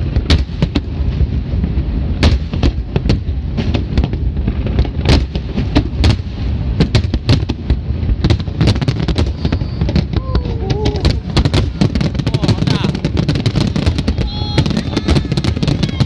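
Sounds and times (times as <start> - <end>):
low rumble of fireworks barrage: 0.0 - 16.0
firework shells bursting: 2.2 - 16.0.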